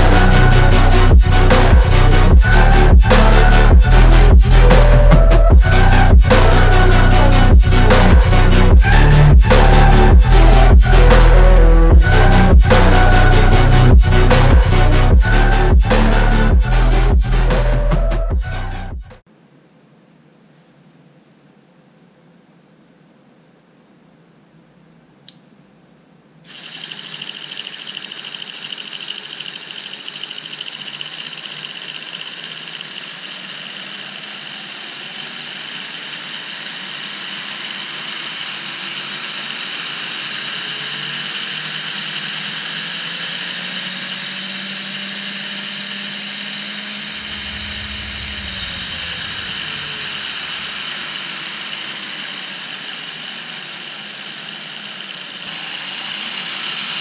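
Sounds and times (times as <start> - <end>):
small electric motor whirring: 0.0 - 17.8, 26.5 - 57.0.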